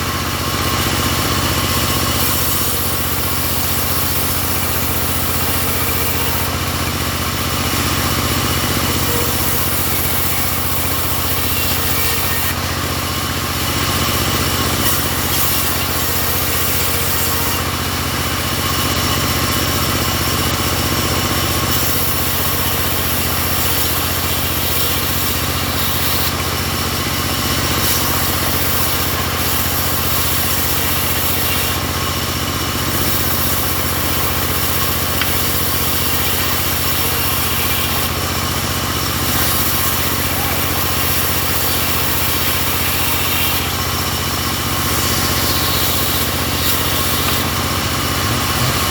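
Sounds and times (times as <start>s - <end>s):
sawmill running: 0.0s - 48.9s.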